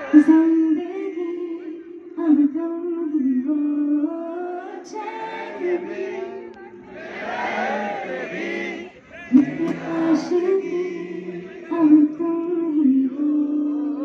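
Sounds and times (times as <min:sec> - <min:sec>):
woman singing into a microphone: 0:00.0 - 0:07.0, 0:09.3 - 0:14.0.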